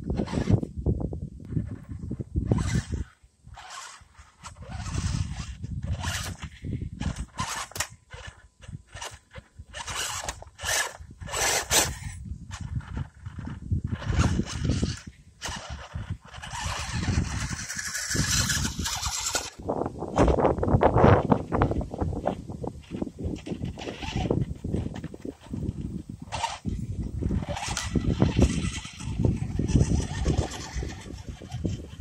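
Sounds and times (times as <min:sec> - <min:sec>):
rc car crunching over rocks: 0:00.0 - 0:00.7, 0:01.5 - 0:32.0.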